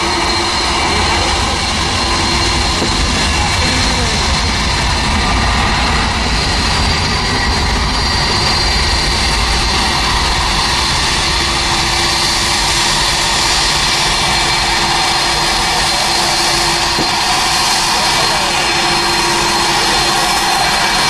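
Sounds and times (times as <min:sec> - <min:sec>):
jet engines roaring and whining: 0:00.0 - 0:21.0.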